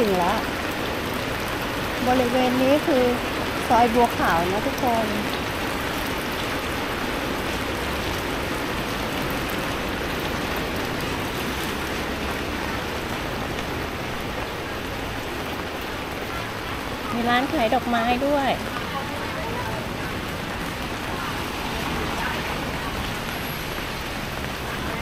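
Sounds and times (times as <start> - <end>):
rain pattering on umbrella: 0.0 - 25.0.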